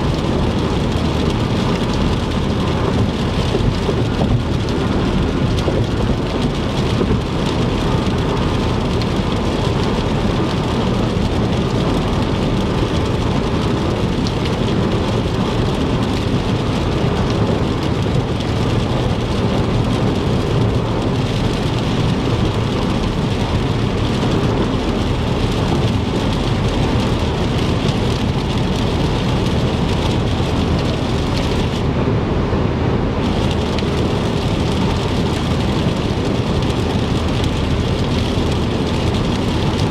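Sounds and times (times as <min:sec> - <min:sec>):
low road rumble: 0:00.0 - 0:39.9
rain on car: 0:00.0 - 0:39.9.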